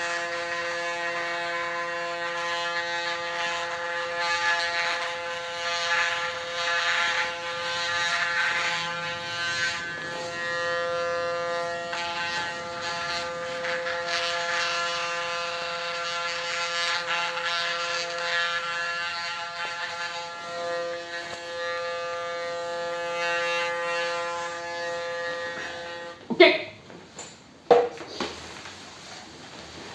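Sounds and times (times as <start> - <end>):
electric hair clipper buzzing: 0.0 - 26.3.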